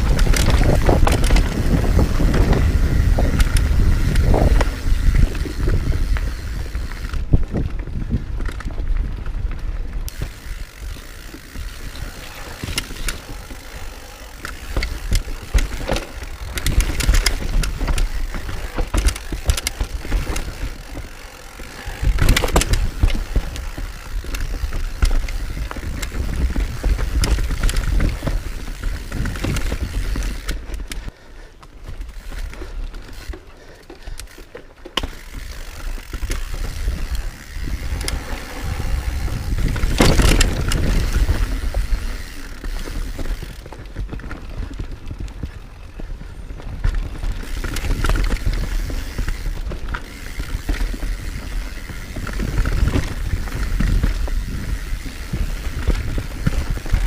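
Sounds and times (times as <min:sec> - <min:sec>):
bike clicks and rattles: 0:00.0 - 0:57.0
bike tyres rumbling on dirt: 0:00.0 - 0:57.0.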